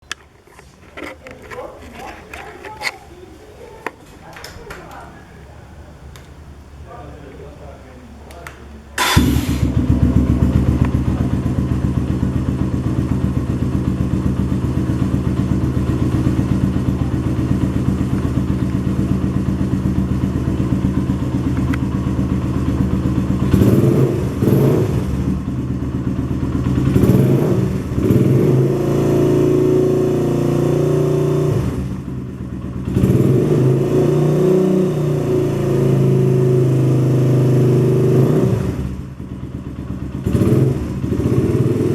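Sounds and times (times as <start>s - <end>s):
motorcycle engine revving: 3.8s - 41.9s.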